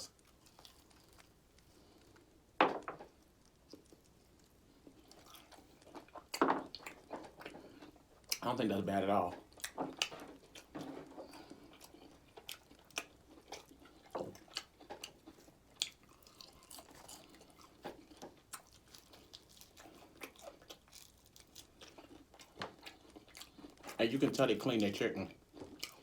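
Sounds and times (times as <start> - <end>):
crunchy chewing: 0.0 - 2.4, 3.0 - 8.5, 9.3 - 26.0.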